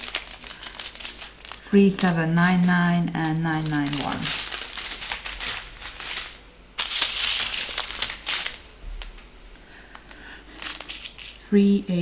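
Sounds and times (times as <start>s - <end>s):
plastic bags crinkling: 0.0s - 11.4s.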